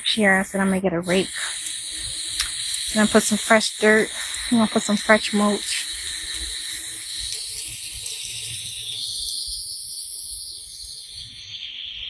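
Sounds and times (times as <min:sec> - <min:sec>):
garden hose spraying water: 0:00.0 - 0:11.7.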